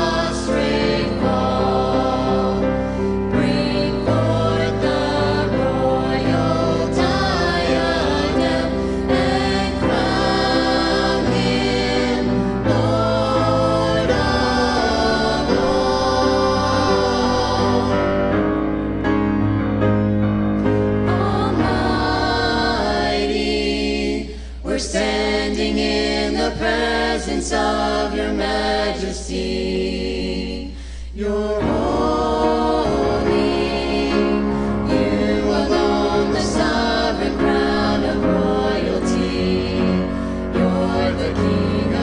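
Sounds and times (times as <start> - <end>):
group singing in harmony: 0.0 - 42.0.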